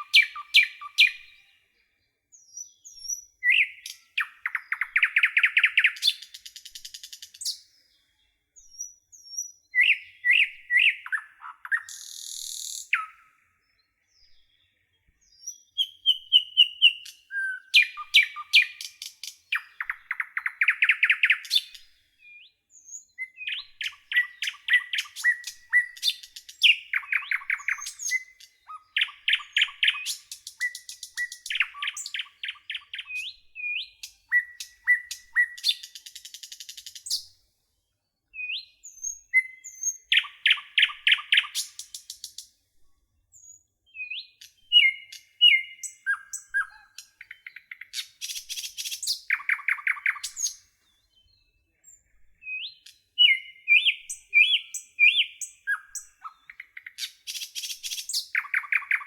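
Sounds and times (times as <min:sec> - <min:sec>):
songbirds trilling and chirping: 0:00.0 - 0:59.0.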